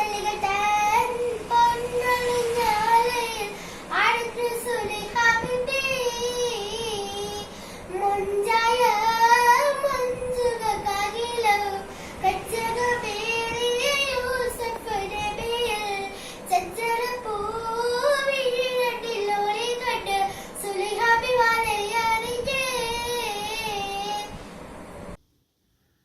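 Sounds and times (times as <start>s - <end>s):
child singing unaccompanied: 0.0s - 24.4s.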